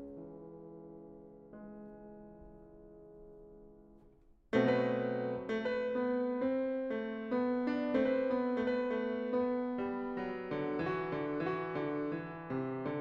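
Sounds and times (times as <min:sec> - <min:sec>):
solo grand piano: 0:00.0 - 0:13.0.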